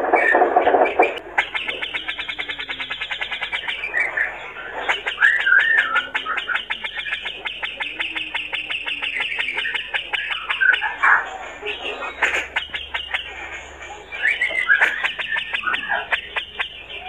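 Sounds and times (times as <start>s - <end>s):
bird harsh chattering song: 0.0s - 17.0s
bird whistled warble: 0.0s - 17.0s.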